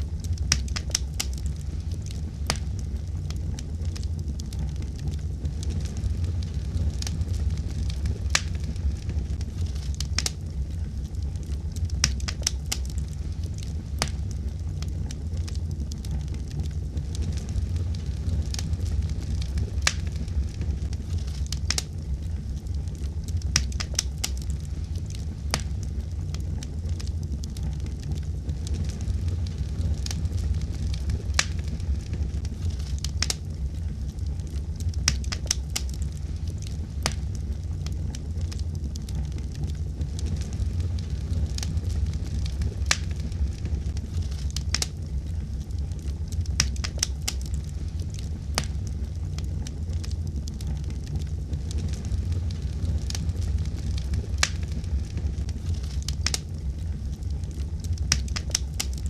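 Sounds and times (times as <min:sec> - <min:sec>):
fire burning in fireplace: 0:00.0 - 0:59.0.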